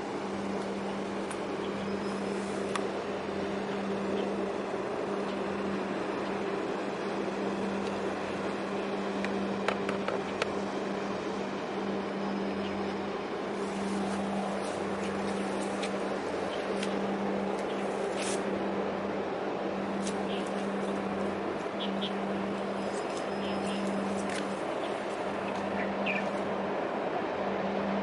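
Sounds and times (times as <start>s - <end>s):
ship machinery drone: 0.0s - 28.0s.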